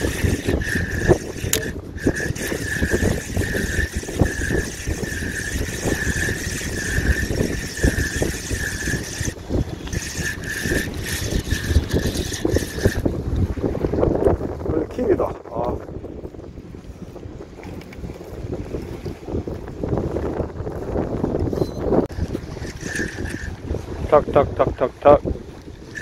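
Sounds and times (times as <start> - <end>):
fishing reel gears whirring: 0.0 - 14.3, 17.0 - 24.4, 25.2 - 26.0
wind buffeting microphone: 0.0 - 26.0.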